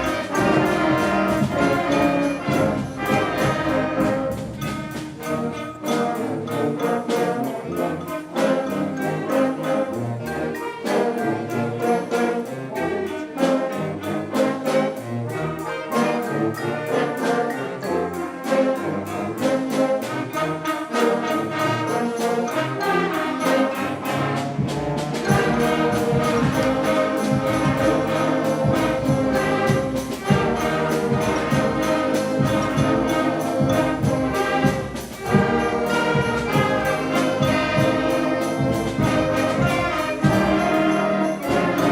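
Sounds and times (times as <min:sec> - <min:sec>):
concert band playing: 0:00.0 - 0:41.9
percussion beat: 0:00.0 - 0:41.9.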